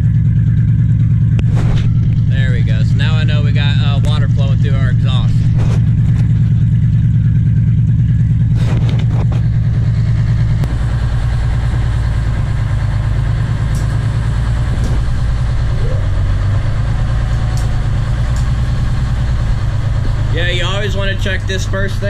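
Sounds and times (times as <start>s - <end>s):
boat engine idling: 0.0s - 22.0s
engine knocks: 0.0s - 22.0s.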